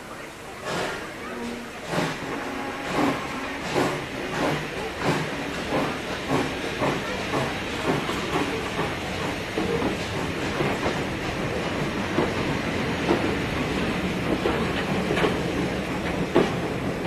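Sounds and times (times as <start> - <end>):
hiss of steam: 0.0 - 17.0
steam locomotive exhaust chuffs: 0.0 - 17.0.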